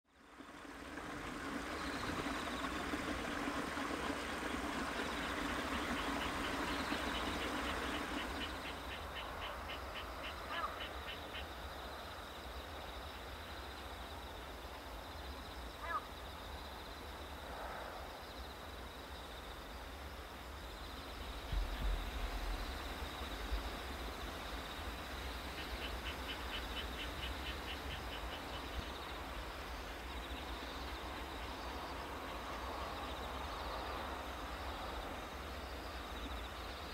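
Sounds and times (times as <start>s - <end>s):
low wind rumble: 0.1s - 15.5s, 16.2s - 36.9s
insects trilling: 0.2s - 17.4s, 18.0s - 36.9s.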